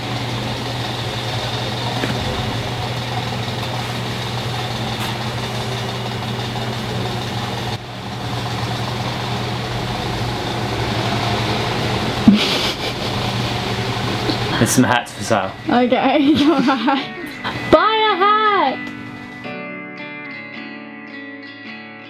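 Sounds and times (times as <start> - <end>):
low mechanical hum of machinery: 0.0 - 19.4.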